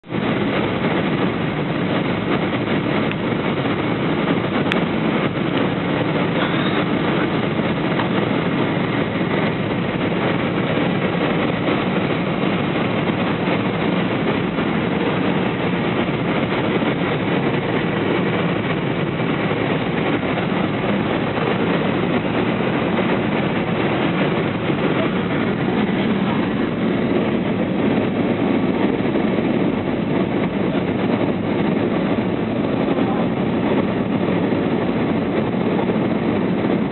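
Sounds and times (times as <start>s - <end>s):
jet airliner roaring: 0.0s - 36.9s.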